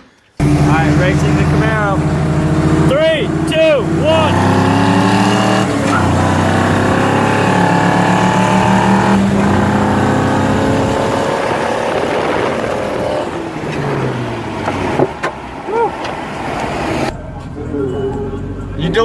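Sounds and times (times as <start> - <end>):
car engine at full throttle: 0.4 - 19.0.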